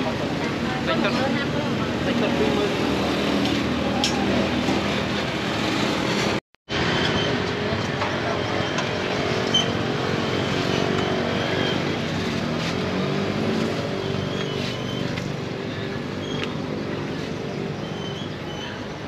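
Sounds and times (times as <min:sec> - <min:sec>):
motorbike engines running: 0:00.0 - 0:19.0.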